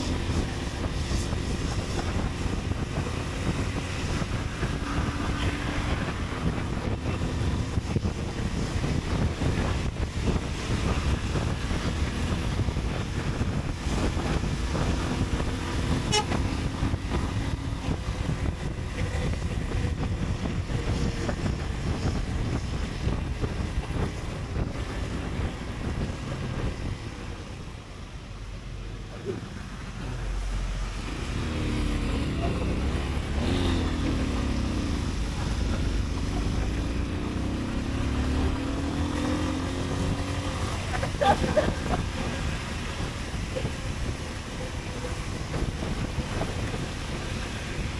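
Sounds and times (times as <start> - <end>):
wind rush on microphone: 0.0 - 47.9.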